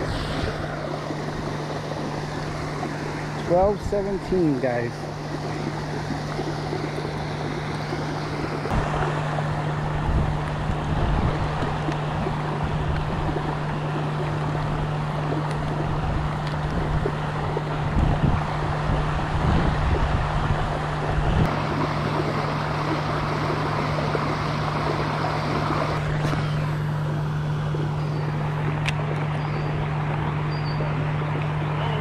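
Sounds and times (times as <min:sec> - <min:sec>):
constant low hum: 0:00.0 - 0:32.0
wind buffeting microphone: 0:00.0 - 0:32.0.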